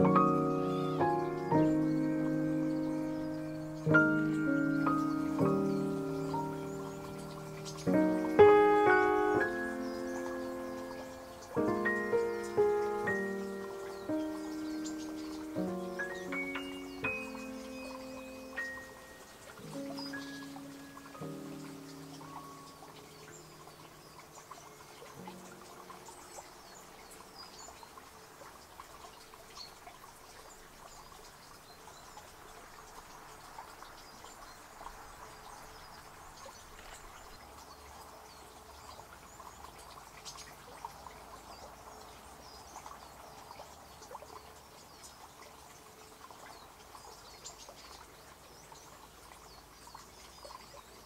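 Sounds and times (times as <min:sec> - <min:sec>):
small birds chirping: 0:00.0 - 0:51.0
stream trickling: 0:00.0 - 0:51.0.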